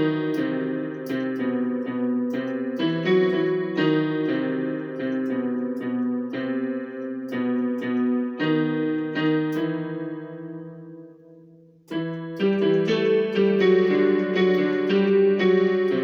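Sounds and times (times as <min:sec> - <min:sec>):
electronic keyboard playing: 0:00.0 - 0:16.0.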